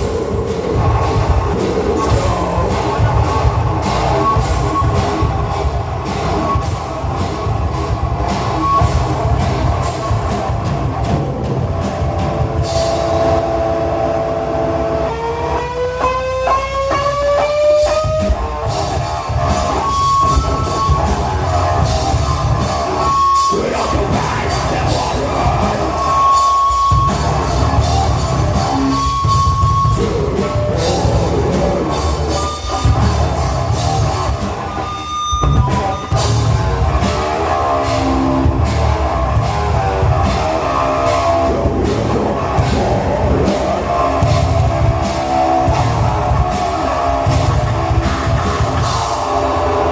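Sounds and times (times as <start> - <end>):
distorted electric guitar: 0.0 - 49.9
drum kit: 0.0 - 49.9
high held guitar notes: 0.0 - 49.9.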